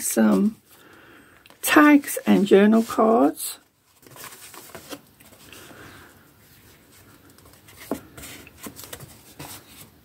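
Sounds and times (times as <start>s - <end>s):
paper rustling: 1.5s - 9.9s.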